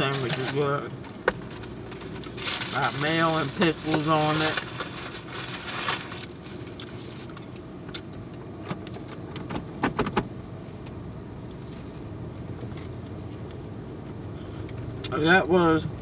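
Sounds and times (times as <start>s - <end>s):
low car hum: 0.0s - 16.0s.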